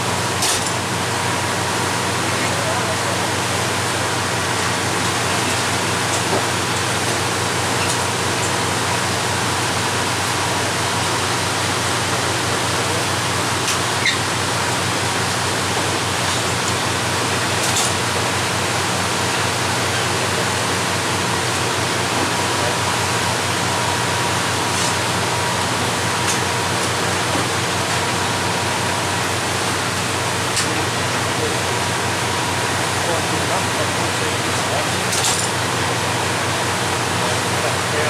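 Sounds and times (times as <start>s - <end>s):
boat engine hum: 0.0s - 38.0s.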